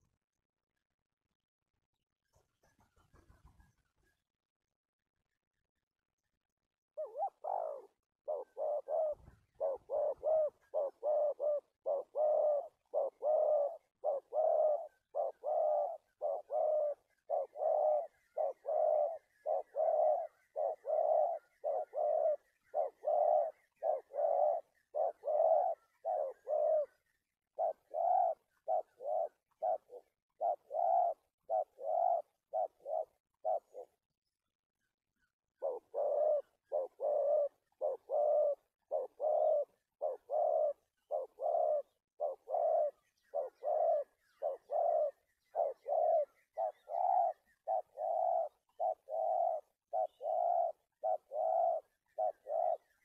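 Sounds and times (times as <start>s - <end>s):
dove cooing: 7.0s - 34.2s, 35.2s - 53.0s.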